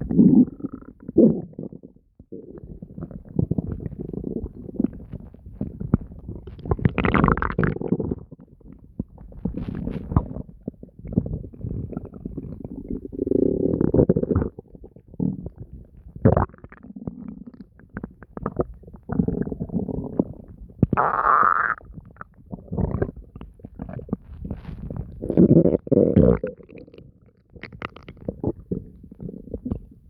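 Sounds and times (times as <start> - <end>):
stomach gurgling and growling: 0.0 - 30.0.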